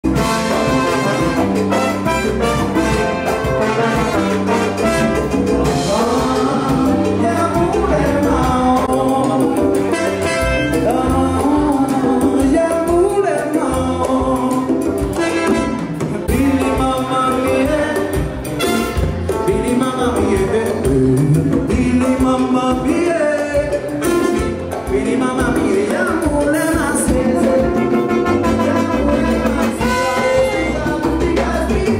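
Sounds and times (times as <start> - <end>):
live salsa band: 0.0 - 31.9.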